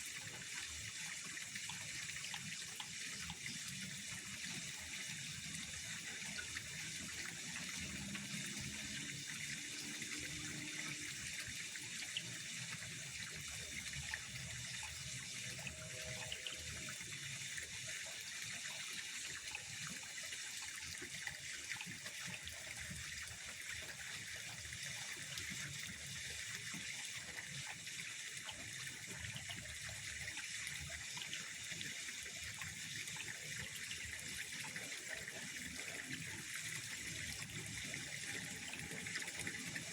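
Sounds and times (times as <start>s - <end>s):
pond water trickling and lapping: 0.0s - 39.9s.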